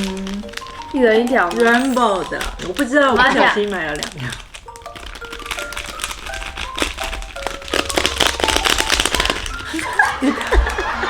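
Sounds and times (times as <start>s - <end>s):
plastic wrapper crinkling: 0.0s - 11.0s
plucked background music: 0.0s - 11.0s.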